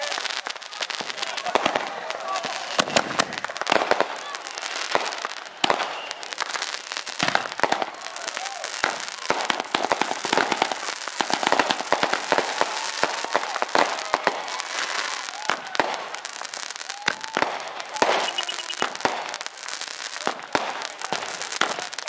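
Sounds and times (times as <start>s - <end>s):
firecrackers popping: 0.0s - 22.0s.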